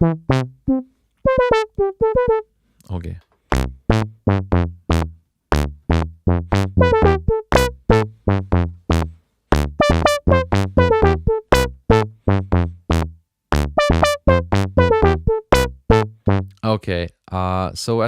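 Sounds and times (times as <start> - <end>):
plucky synth notes: 0.0 - 2.5, 3.5 - 16.6.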